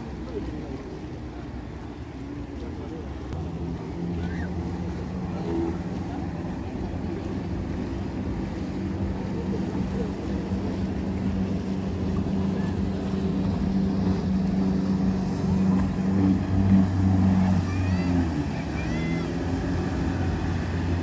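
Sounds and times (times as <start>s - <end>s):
water noise: 0.0s - 21.0s
watercraft engine droning: 0.0s - 21.0s.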